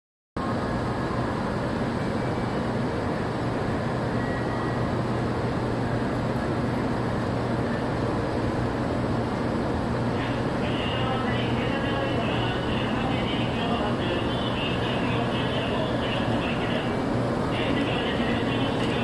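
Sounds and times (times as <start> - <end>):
station background noise: 0.4 - 19.0
train equipment humming: 0.4 - 19.0.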